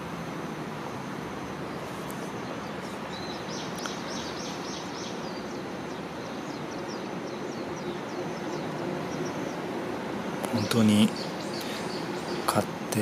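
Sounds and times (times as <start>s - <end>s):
steady background hiss: 0.0s - 13.0s
bird chirping: 1.7s - 9.8s, 10.4s - 13.0s.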